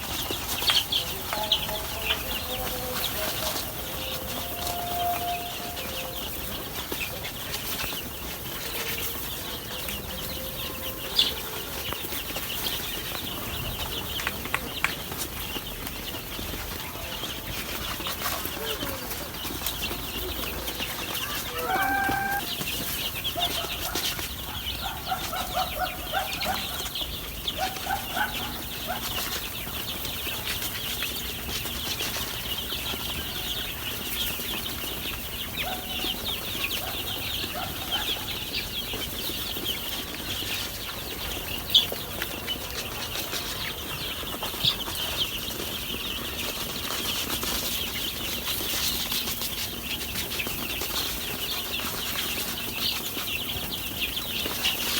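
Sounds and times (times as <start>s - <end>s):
chicks peeping: 0.0s - 54.9s.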